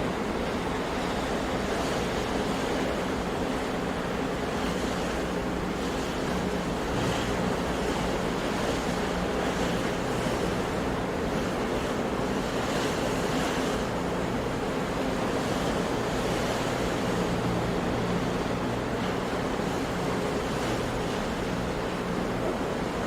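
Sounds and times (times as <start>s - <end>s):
sea surf washing onto shore: 0.0s - 23.0s.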